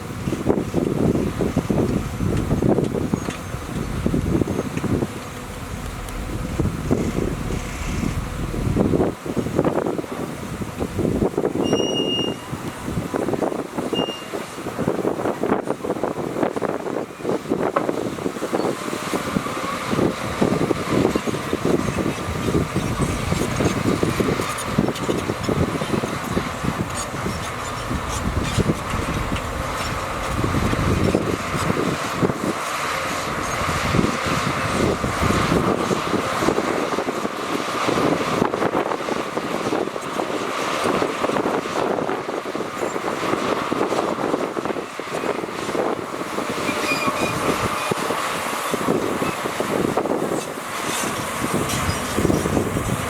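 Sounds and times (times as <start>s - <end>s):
heavy machinery diesel engine: 0.0s - 53.0s.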